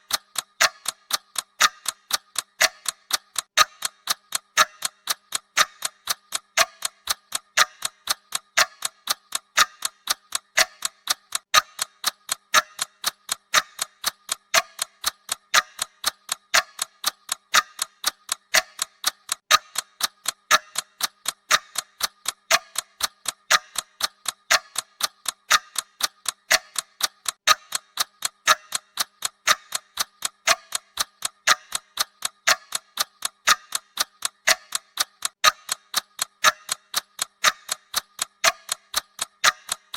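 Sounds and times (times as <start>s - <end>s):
clock-style timer ticking: 0.0s - 39.9s.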